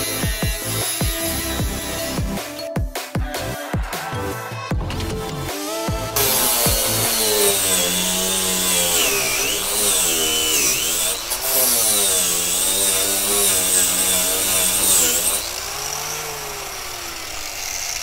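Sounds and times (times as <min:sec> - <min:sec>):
angle grinder on metal: 0:00.0 - 0:02.6, 0:04.8 - 0:18.0.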